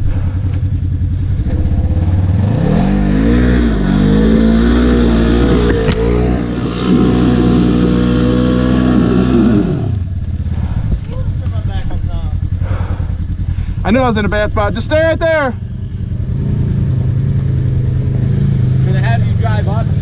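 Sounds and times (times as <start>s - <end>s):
utility vehicle engine revving: 0.0s - 20.0s.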